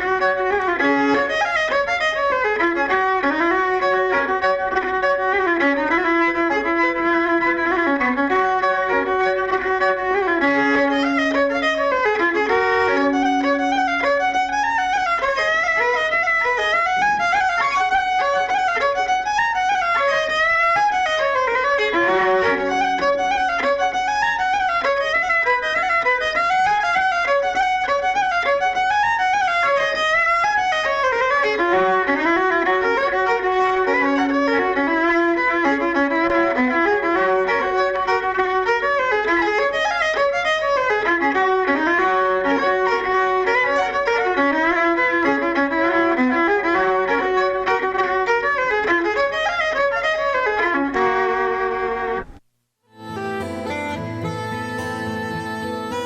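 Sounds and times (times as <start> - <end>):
fiddle playing a quick tune: 0.0 - 56.0.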